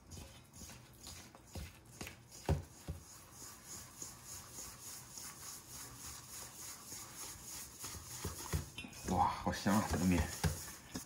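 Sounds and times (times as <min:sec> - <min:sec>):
dough scraping in a bowl: 0:00.0 - 0:11.0.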